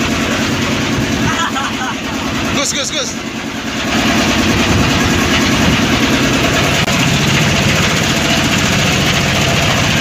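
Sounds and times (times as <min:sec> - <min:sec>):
motorboat engine running: 0:00.0 - 0:10.0
water rushing along hull: 0:00.0 - 0:10.0.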